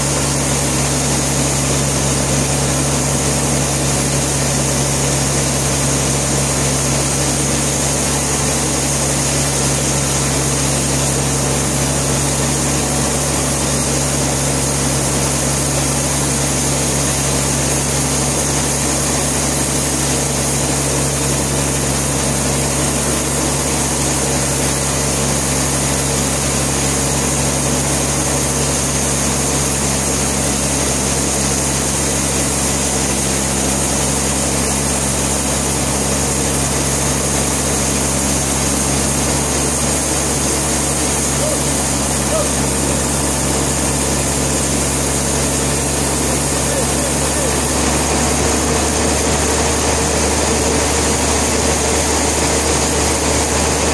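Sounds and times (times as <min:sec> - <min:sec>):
sawmill machinery humming: 0:00.0 - 0:53.9.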